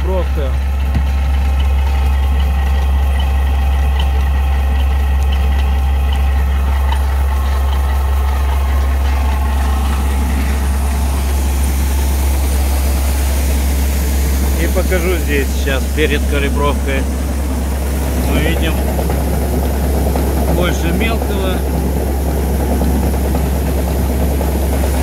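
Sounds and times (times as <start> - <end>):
machine low drone: 0.0 - 25.0
machine whining tones: 0.0 - 25.0.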